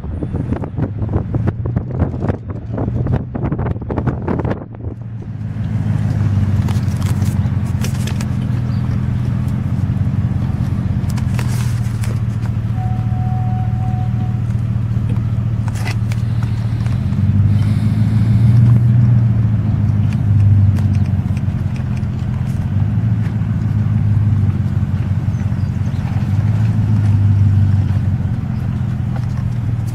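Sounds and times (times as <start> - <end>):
vehicle engine droning: 0.0 - 29.9.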